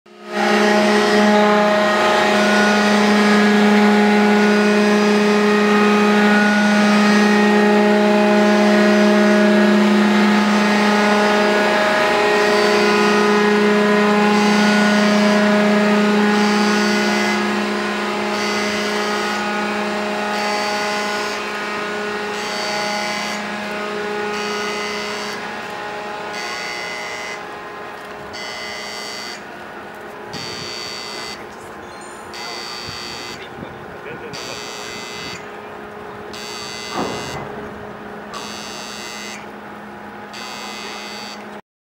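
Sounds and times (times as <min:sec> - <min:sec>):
elevator machinery hum: 0:00.5 - 0:41.6.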